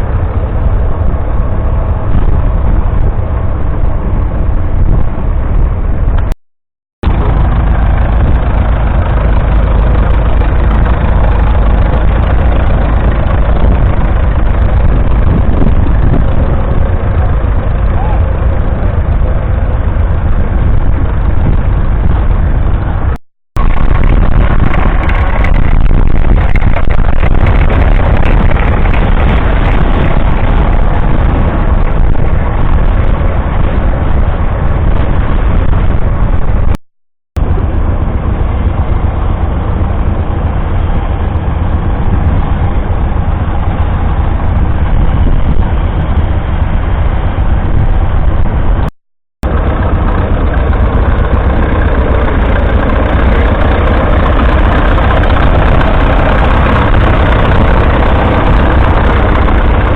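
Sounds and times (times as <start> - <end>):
tractor engines running: 0.0 - 6.3, 7.0 - 36.7, 37.4 - 59.9.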